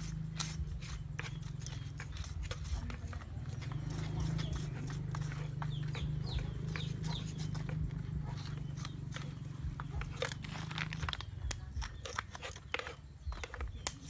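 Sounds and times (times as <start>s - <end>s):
knife cutting and scraping on wood: 0.0s - 14.0s.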